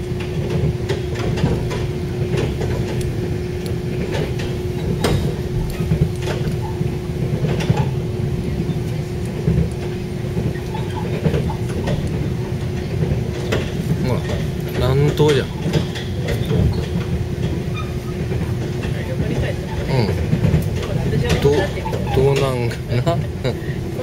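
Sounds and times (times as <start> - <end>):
constant hum: 0.0 - 24.0
train rumbling: 0.0 - 24.0
sharp clicks and rattles: 0.2 - 8.1, 8.8 - 23.4.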